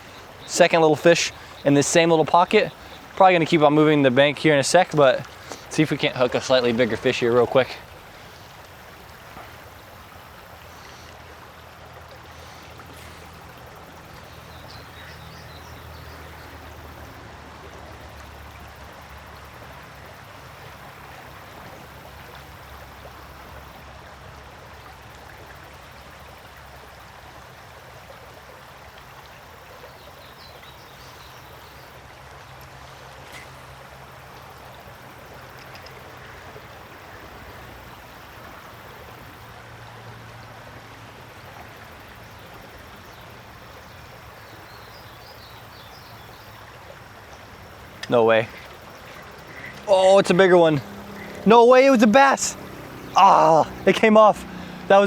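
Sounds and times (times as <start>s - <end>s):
creek water running over rocks: 0.0s - 55.0s.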